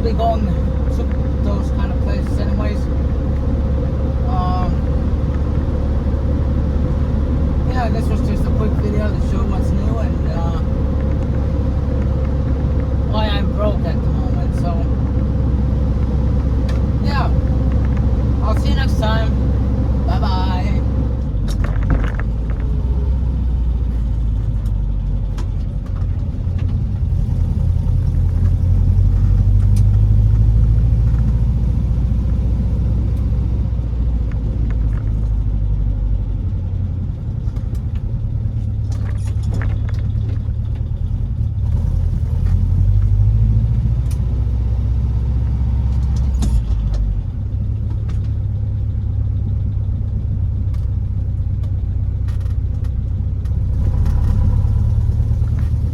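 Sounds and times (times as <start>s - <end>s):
car engine and exhaust droning: 0.0s - 55.9s.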